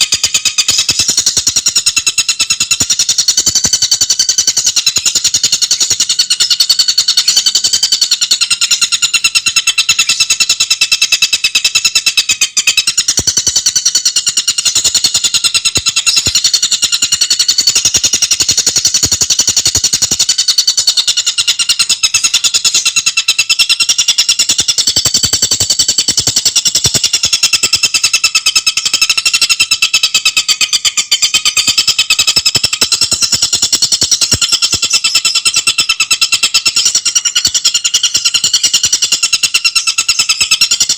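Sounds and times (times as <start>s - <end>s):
bird calling in fast rattle: 0.0s - 40.9s.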